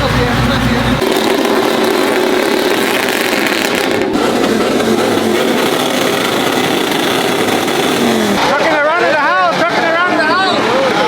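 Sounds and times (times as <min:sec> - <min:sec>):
truck engine revving high: 0:00.0 - 0:11.0.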